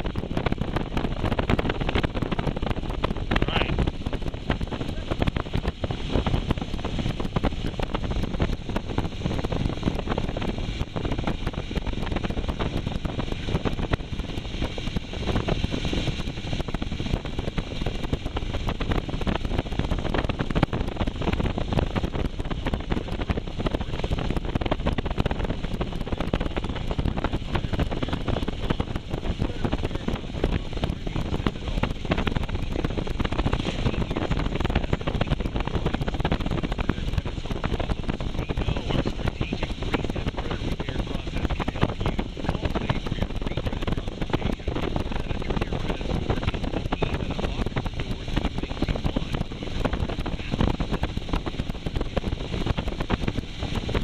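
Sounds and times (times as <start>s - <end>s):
road noise: 0.0s - 54.0s
wind buffeting microphone: 0.0s - 54.0s.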